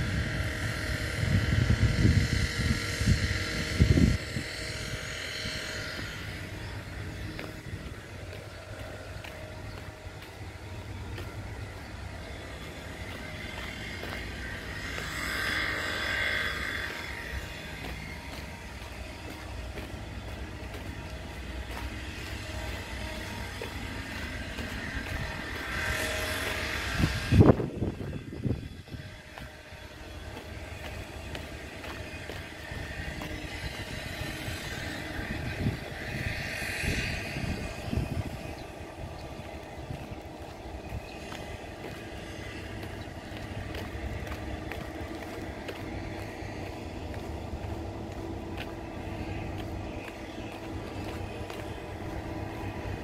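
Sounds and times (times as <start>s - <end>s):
faint steady tones: 0.0s - 53.0s
freight train rumbling: 0.0s - 53.0s.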